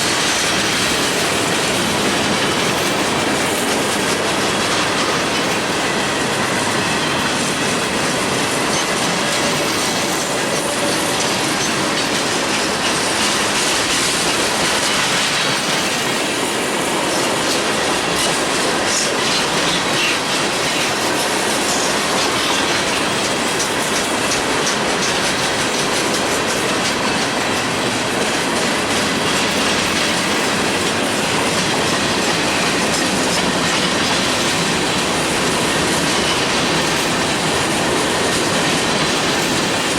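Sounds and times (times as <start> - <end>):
wheels clicking over rail joints: 0.0 - 39.9.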